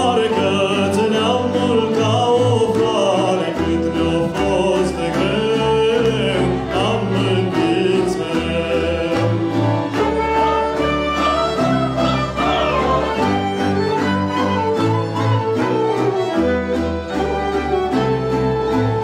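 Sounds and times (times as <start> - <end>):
double bass line: 0.0 - 19.0
plucked string beat: 0.0 - 19.0
violins playing melody: 0.0 - 19.0.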